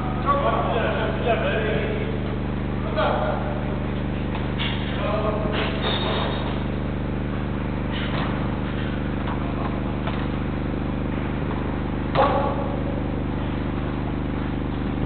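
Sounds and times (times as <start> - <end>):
distant players on indoor pitch: 0.0 - 15.0
low electrical hum: 0.0 - 15.0.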